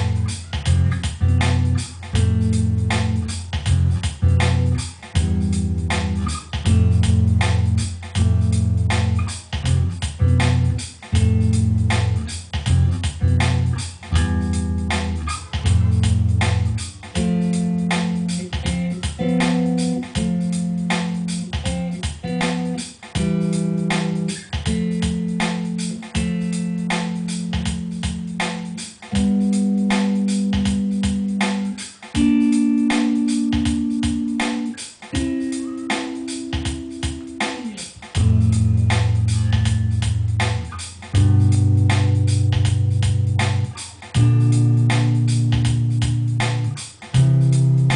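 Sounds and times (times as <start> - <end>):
bass guitar solo: 0.0 - 47.9
drum machine beat: 0.0 - 47.9.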